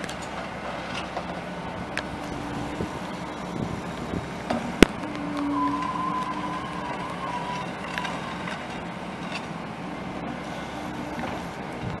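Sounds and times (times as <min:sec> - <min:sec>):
excavator engine running: 0:00.0 - 0:12.0
wheel cutter cutting asphalt: 0:00.0 - 0:12.0
high whine: 0:01.7 - 0:12.0.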